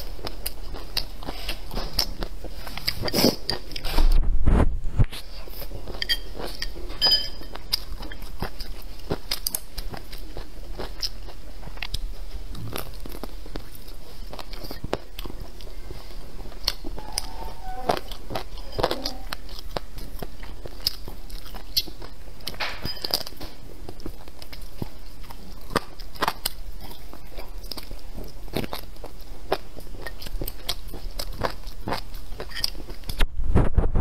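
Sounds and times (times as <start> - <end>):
person crunching and chewing food: 0.0 - 33.8.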